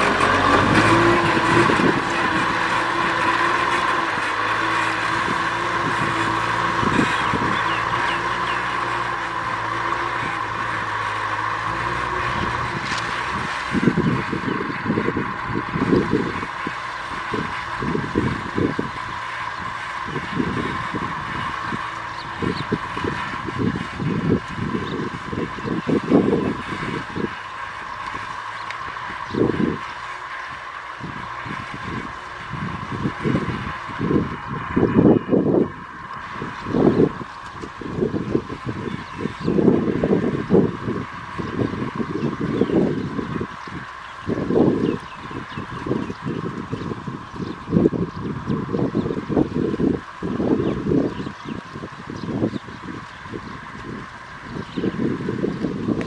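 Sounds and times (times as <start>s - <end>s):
low rumbling bursts: 0.0s - 56.0s
tractor diesel engine under load: 0.0s - 56.0s.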